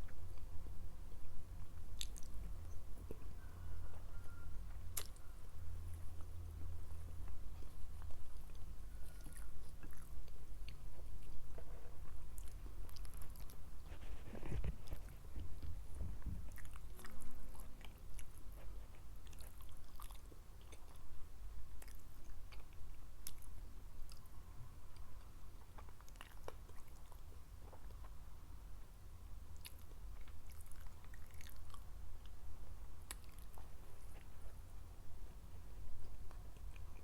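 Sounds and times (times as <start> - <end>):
chewing food: 1.2 - 28.2, 29.5 - 37.0.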